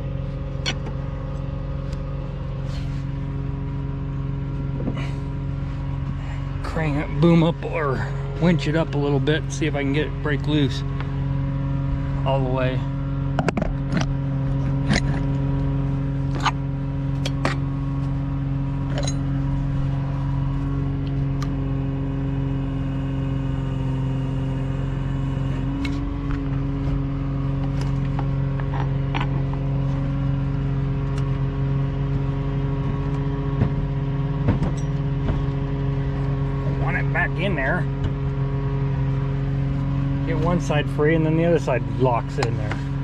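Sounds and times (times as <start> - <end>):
engine running steadily: 0.0 - 43.0.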